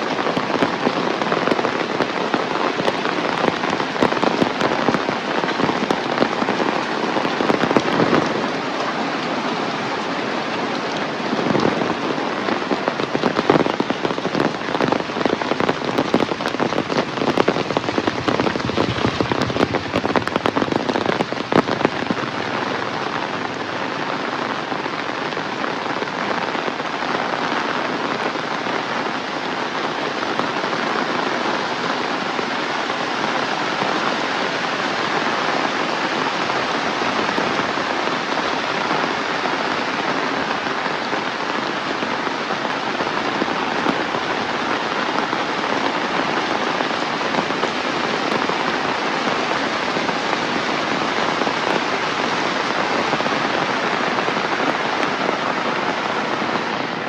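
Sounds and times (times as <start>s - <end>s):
heavy rain splashing: 0.0s - 57.0s.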